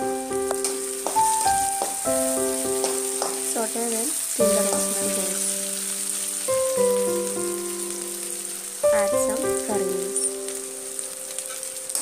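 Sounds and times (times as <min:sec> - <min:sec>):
food sizzling in hot oil: 0:00.0 - 0:12.0
keyboard background music: 0:00.0 - 0:12.0.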